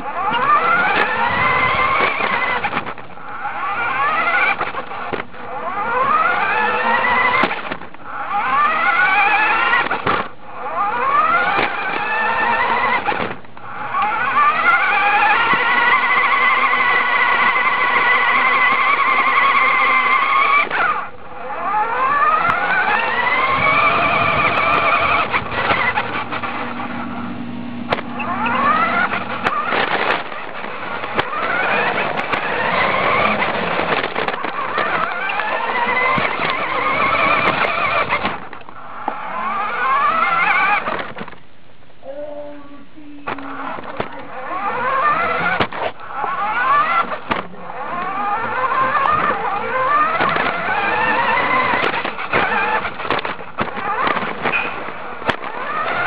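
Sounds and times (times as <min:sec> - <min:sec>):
toy truck motor whining: 0:00.0 - 0:41.4, 0:42.0 - 0:56.0.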